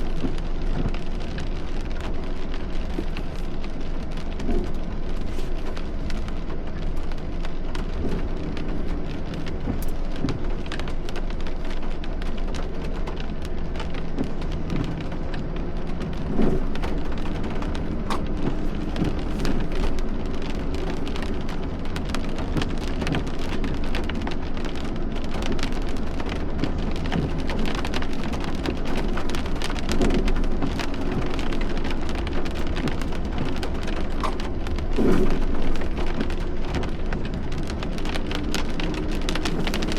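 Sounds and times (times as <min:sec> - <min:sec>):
constant low rumble: 0:00.0 - 0:39.9
heavy rain falling: 0:00.0 - 0:39.9.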